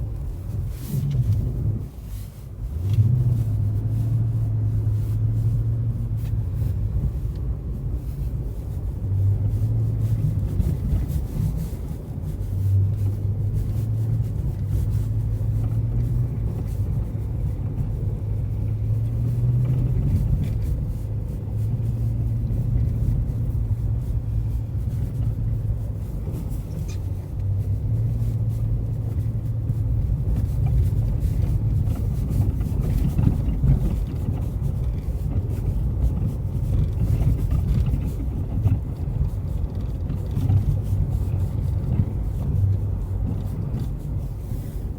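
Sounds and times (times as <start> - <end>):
car road rumble: 0.0 - 44.9.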